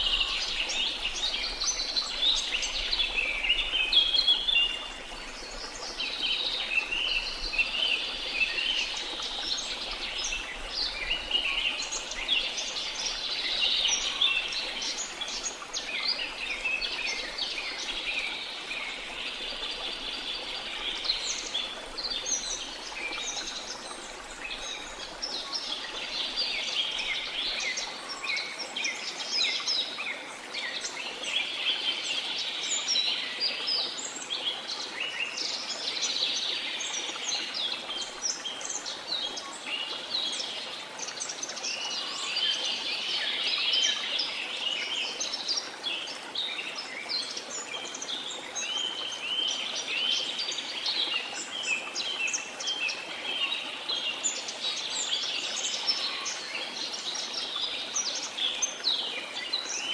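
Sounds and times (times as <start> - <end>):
forest birds chirping: 0.0 - 59.9.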